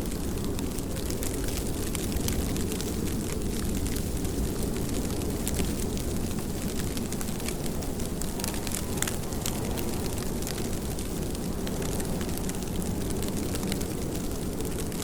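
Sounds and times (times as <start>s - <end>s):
raindrops ticking on a surface: 0.0s - 15.0s
steady rain hissing: 0.0s - 15.0s.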